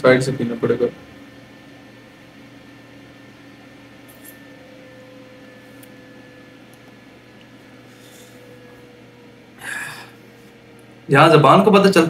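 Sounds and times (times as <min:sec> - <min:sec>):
faint room hum and hiss: 0:00.0 - 0:12.0.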